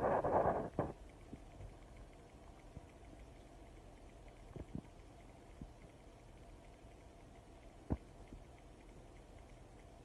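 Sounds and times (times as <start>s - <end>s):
faint room hum: 0.0s - 10.0s
faint ticking: 0.0s - 10.0s.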